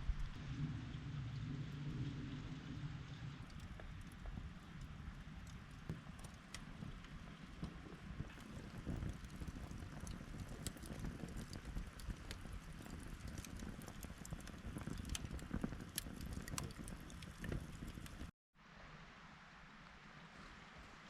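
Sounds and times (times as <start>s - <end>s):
campfire crackling and popping: 0.1s - 18.3s.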